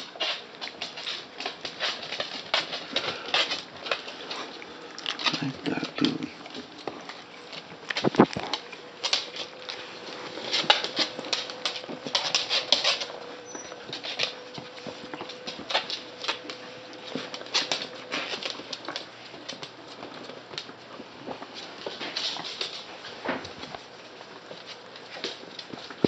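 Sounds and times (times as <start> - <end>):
dog claws clicking on wooden floor: 0.0 - 26.0.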